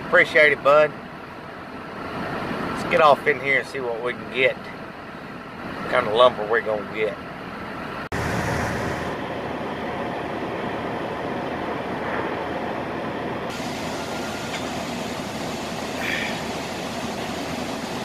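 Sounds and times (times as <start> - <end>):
truck rumble and road noise: 0.0 - 18.0.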